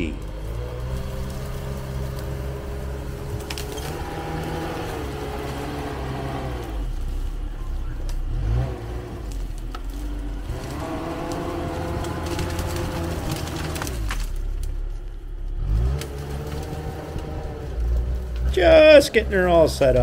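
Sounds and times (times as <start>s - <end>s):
diesel engine under load: 0.0s - 20.0s
branches snapping: 0.1s - 20.0s.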